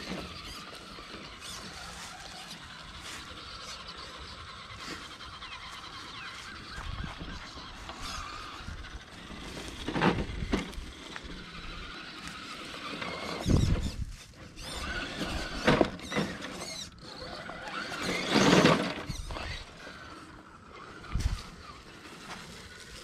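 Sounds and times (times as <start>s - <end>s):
toy car electric motor whirring: 0.0s - 23.0s.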